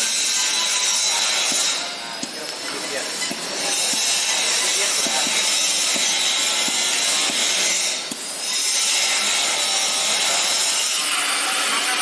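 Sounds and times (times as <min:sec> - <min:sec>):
laser cutter hissing: 0:00.1 - 0:12.0.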